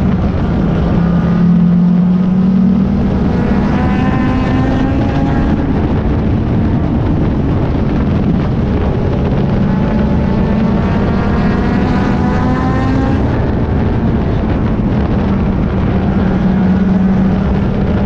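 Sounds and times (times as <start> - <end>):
race car engine running hard: 0.0 - 18.0
road noise: 0.0 - 18.0
wind noise: 0.0 - 18.0.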